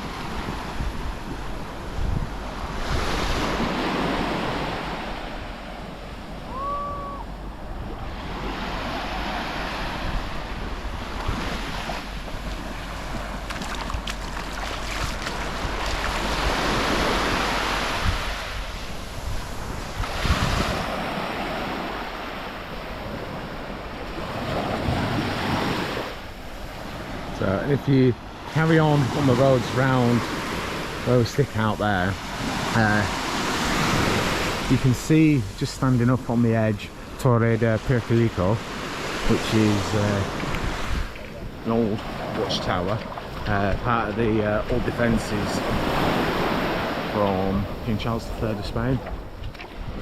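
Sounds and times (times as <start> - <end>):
waves breaking on beach: 0.0 - 50.0
wind rumbling on microphone: 0.0 - 50.0.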